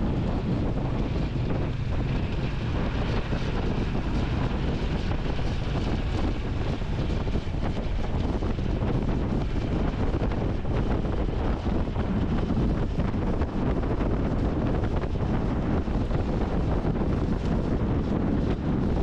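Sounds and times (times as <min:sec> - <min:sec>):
engine and road noise: 0:00.0 - 0:19.0
wind buffeting microphone: 0:00.0 - 0:19.0.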